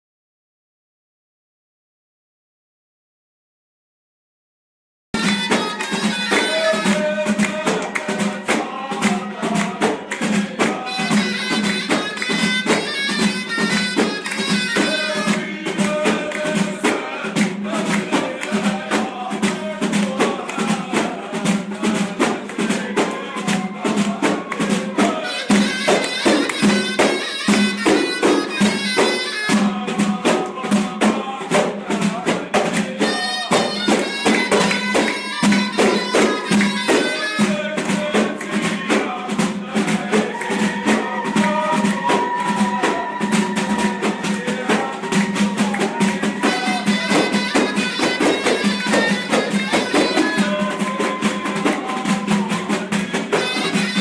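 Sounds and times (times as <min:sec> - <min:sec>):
frame drums beating: 0:05.2 - 0:54.0
shawm melody: 0:05.2 - 0:54.0.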